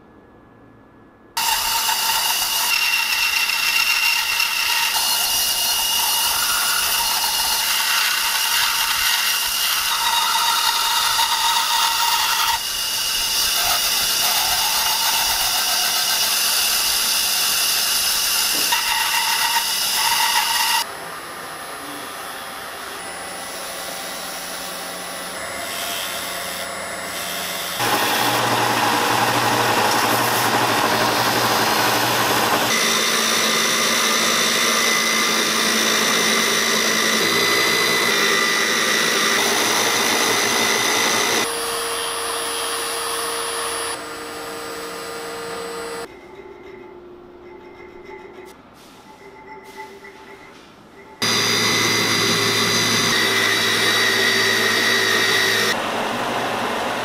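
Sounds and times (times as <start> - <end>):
scroll saw cutting metal: 1.4 - 20.9, 22.3 - 46.1, 51.2 - 55.8
belt sander running: 3.2 - 46.1, 51.2 - 57.0.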